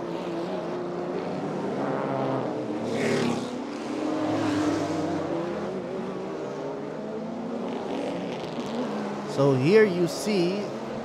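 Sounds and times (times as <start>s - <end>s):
race car engines running: 0.0s - 11.0s
race car passing: 0.0s - 11.0s.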